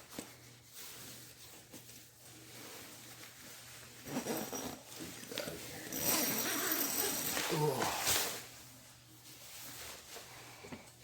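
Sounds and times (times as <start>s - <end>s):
sleeping bag rustling: 0.0s - 10.9s.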